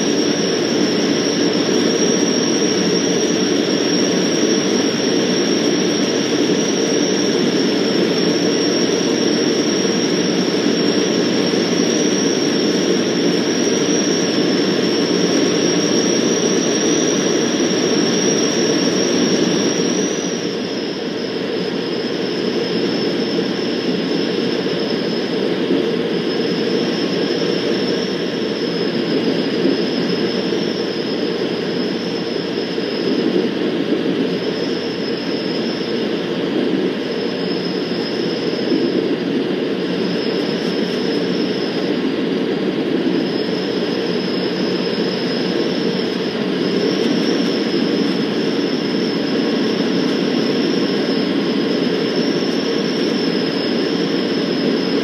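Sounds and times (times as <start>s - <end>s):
aircraft engine and propeller drone: 0.0s - 55.0s
thin high whine: 0.0s - 55.0s.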